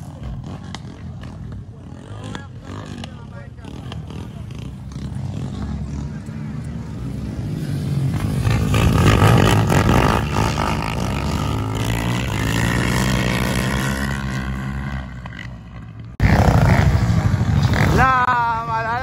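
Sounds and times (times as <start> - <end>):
quad and dirt bike engines racing: 0.0 - 19.0.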